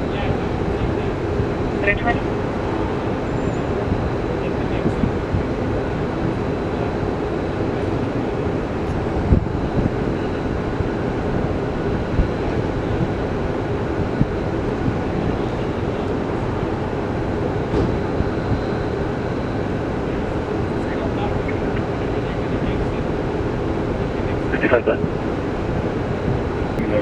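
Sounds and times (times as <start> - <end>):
low vehicle rumble: 0.0 - 27.0.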